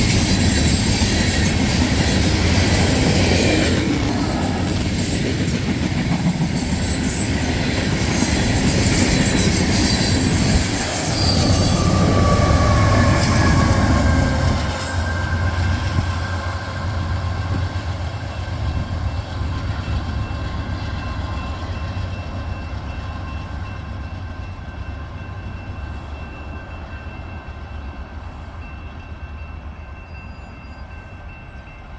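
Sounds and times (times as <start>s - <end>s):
train rumbling by: 0.0s - 31.9s.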